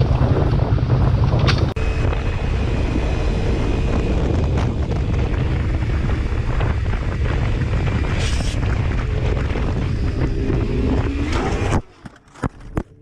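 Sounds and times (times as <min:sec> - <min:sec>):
wind buffeting microphone: 0:00.0 - 0:11.9
motorcycle engine: 0:00.0 - 0:13.0
road noise: 0:00.0 - 0:13.0.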